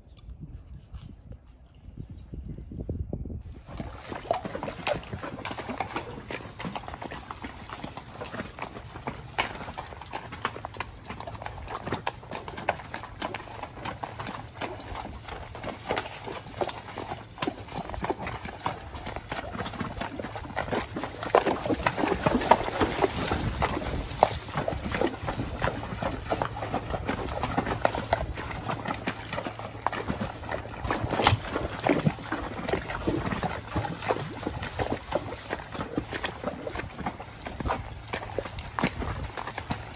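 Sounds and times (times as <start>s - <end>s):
hooves splashing in water: 3.5s - 39.9s.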